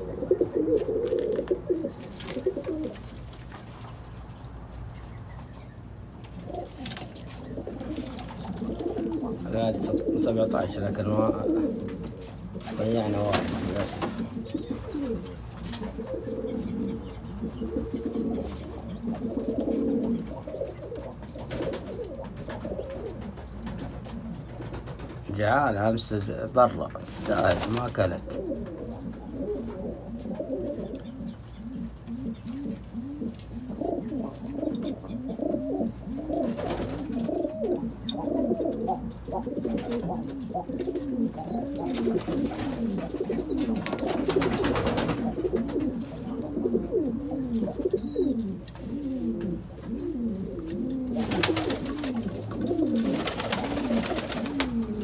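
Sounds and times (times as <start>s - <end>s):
pigeons cooing: 0.0s - 3.4s, 4.2s - 55.0s.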